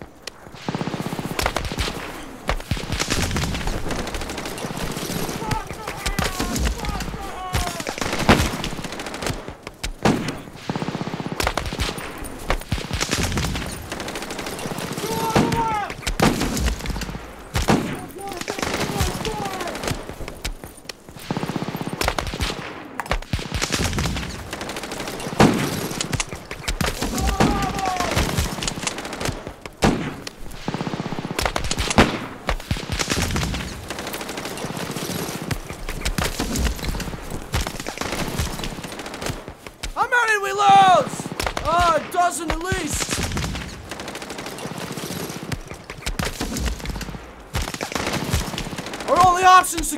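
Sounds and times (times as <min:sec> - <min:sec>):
automatic gunfire bursts: 0:00.5 - 0:20.5, 0:21.2 - 0:49.9
single gunshots: 0:00.6 - 0:20.6, 0:21.2 - 0:40.0, 0:40.8 - 0:49.9.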